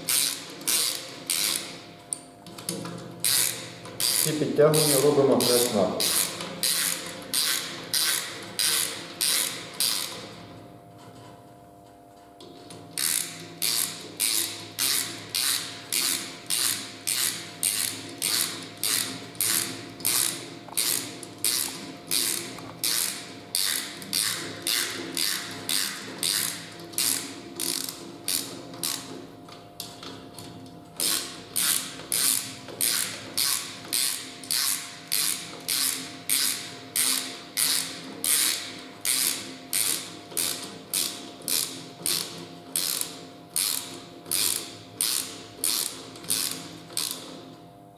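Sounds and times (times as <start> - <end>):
ratchet wrench clicking: 0.1 - 1.7, 3.2 - 10.2, 13.0 - 29.1, 31.0 - 47.3.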